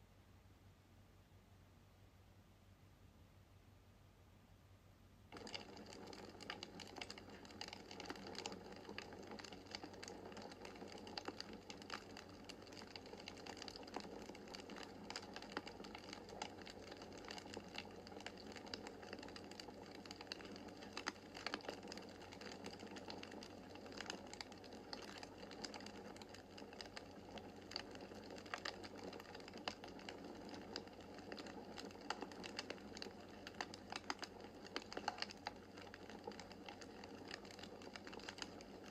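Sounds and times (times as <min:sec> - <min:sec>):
wood fire crackling: 0:05.3 - 0:38.9.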